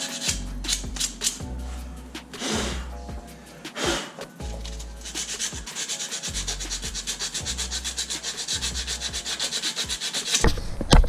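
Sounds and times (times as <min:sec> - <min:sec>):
sandpaper scratching metal: 0:00.0 - 0:10.9.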